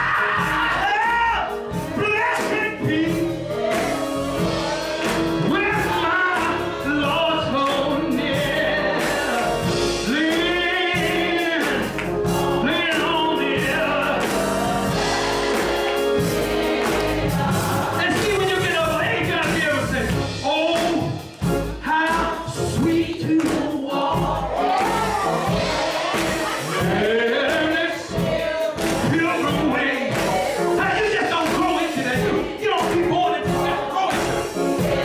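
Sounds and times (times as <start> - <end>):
other voices singing: 0.0 - 19.9, 21.8 - 35.0
instrumental accompaniment: 0.0 - 35.0
man singing gospel: 0.0 - 35.0.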